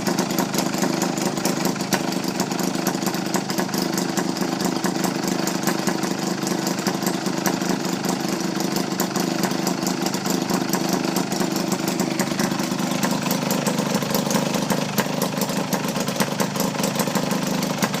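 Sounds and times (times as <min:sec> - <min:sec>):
two-stroke engine running: 0:00.0 - 0:18.0.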